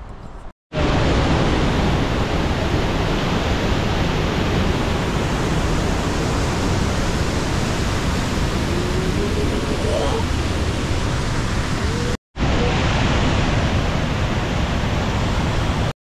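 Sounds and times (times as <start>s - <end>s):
waterfall rushing: 0.8s - 15.9s.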